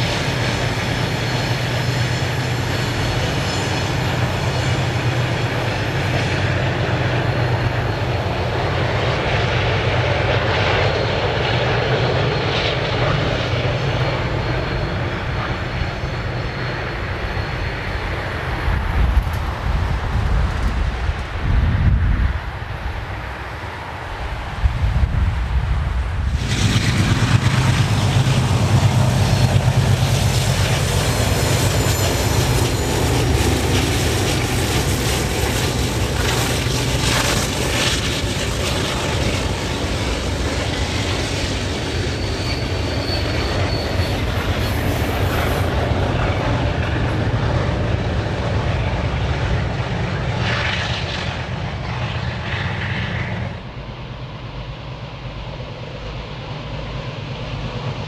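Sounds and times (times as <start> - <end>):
diesel locomotive engines droning: 0.0 - 58.0
train wheels on rails: 0.0 - 58.0.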